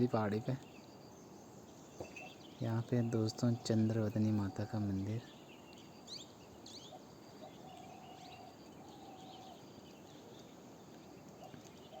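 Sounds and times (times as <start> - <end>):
low even hiss: 0.0 - 12.0
small birds chirping: 0.0 - 12.0.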